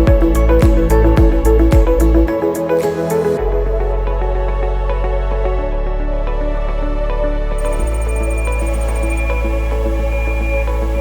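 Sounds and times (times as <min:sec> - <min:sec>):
soft new-age electronic music: 0:00.0 - 0:11.0.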